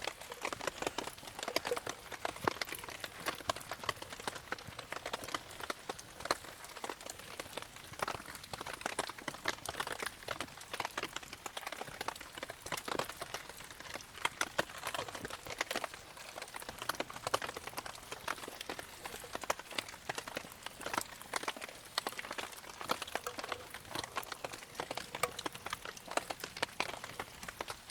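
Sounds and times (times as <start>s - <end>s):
campfire crackling and popping: 0.0s - 27.9s
rain pattering: 0.0s - 27.9s.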